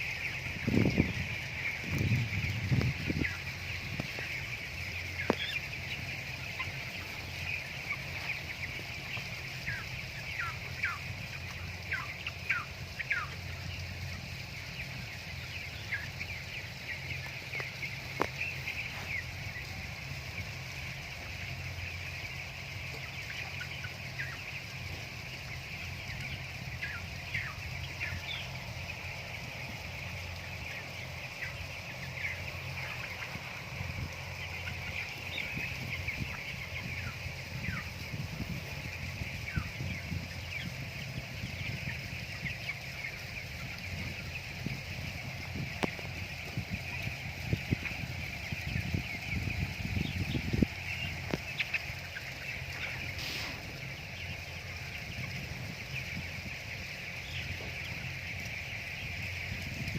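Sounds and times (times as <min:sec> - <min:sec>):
chicks peeping and chirping: 0:00.0 - 0:59.9.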